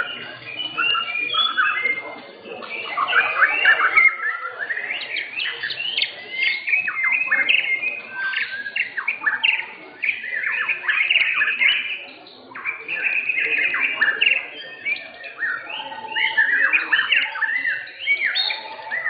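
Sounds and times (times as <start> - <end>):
birds singing whistles and trills: 0.0 - 19.0.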